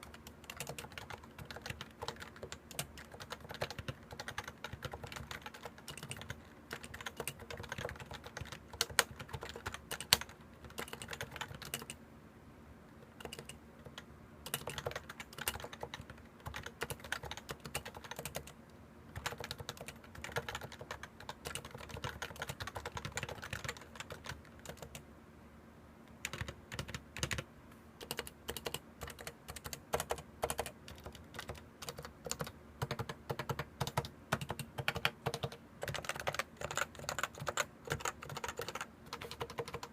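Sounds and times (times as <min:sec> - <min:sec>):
keyboard typing: 0:00.0 - 0:12.0, 0:13.0 - 0:25.0, 0:26.2 - 0:39.9.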